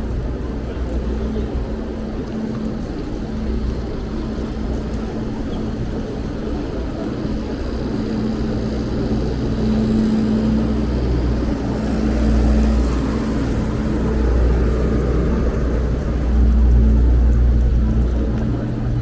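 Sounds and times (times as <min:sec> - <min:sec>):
motor traffic rumble: 0:00.0 - 0:19.0.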